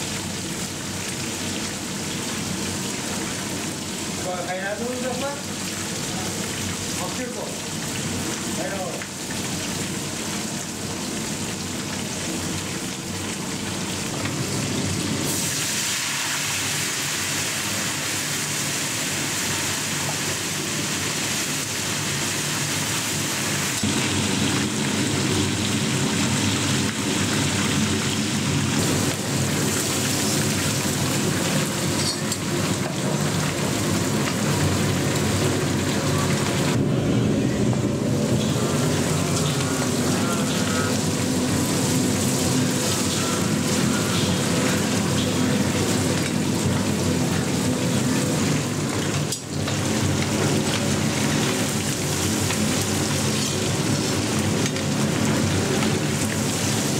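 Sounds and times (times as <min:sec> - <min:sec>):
fish frying in hot oil: 0:00.0 - 0:56.9.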